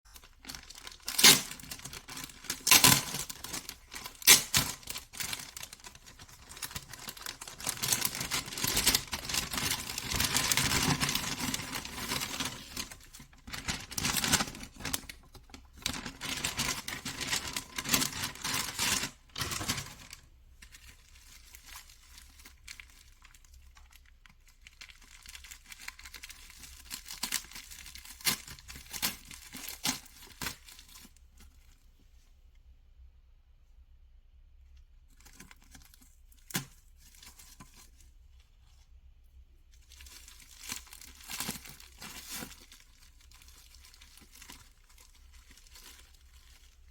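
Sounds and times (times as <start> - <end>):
packaging crinkling and tearing: 0.1 - 31.8, 35.1 - 38.8, 39.7 - 46.9.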